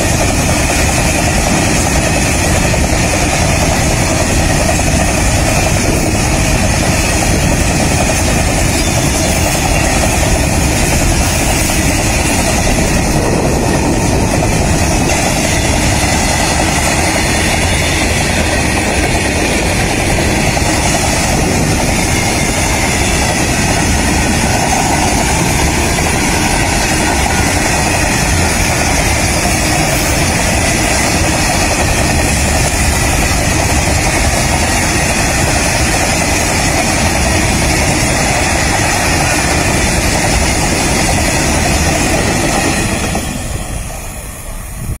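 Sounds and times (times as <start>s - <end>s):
train wheels on rails: 0.0s - 45.0s.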